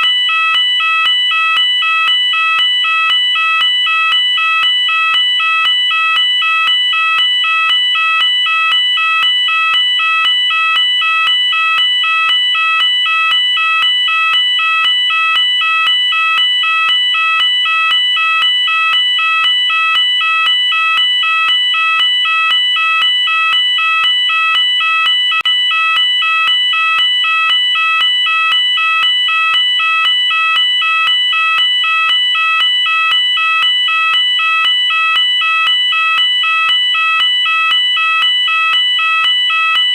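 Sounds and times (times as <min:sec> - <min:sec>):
fire alarm pulsing: 0:00.0 - 0:39.9.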